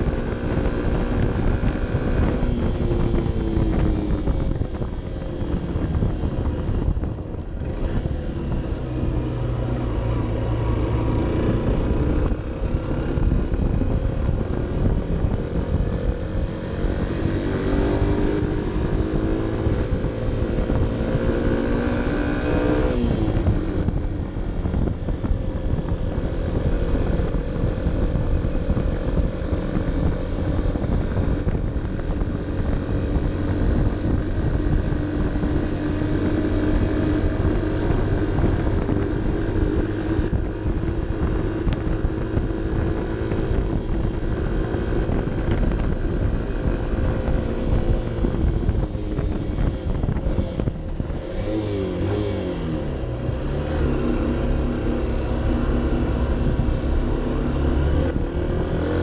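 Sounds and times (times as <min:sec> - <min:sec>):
low rumble of wind and road: 0:00.0 - 0:59.0
motorcycle engine at high revs: 0:00.0 - 0:59.0.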